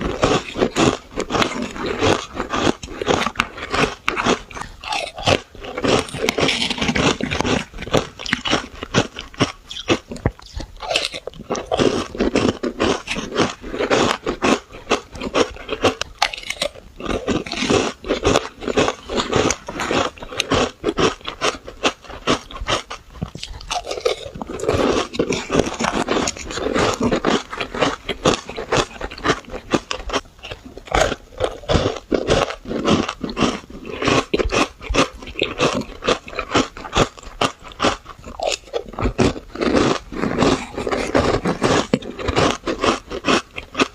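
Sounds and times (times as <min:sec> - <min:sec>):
chewing shaved ice: 0:00.0 - 0:43.9.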